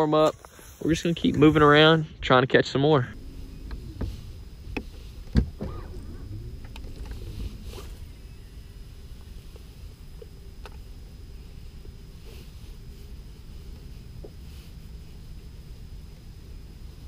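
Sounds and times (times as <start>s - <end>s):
low steady rumble: 0.8s - 17.0s.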